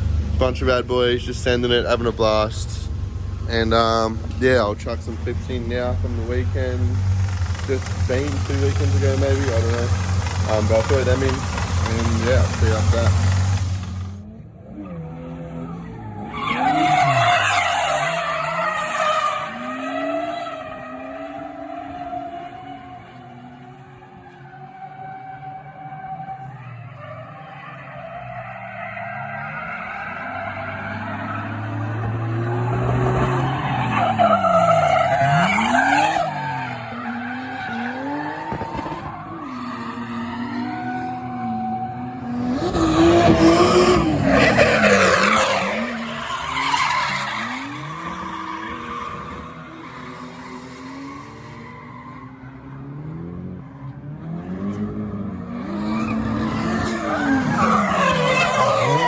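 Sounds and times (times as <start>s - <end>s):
tyres squealing and skidding: 0.0s - 52.8s, 55.5s - 59.0s
car engines revving: 0.0s - 59.0s.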